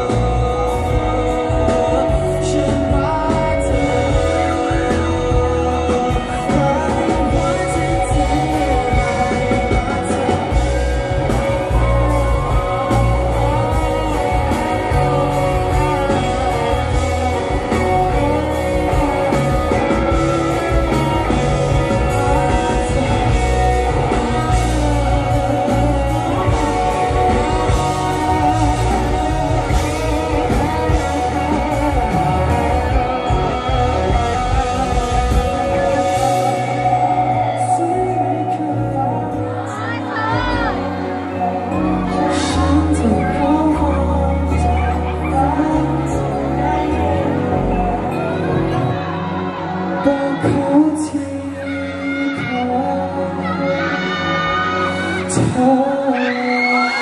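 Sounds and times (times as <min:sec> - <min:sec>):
bass guitar: 0:00.0 - 0:57.0
electric guitar lead: 0:00.0 - 0:57.0.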